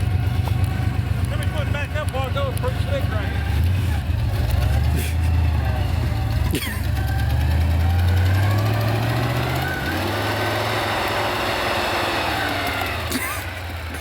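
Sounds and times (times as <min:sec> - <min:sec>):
truck engine pulling hard: 0:00.0 - 0:14.0
tyres churning snow: 0:00.0 - 0:14.0.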